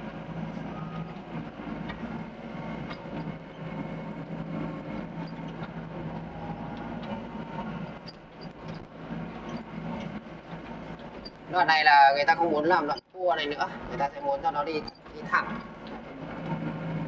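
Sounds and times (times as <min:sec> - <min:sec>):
excavator diesel engine humming: 0:00.0 - 0:17.0.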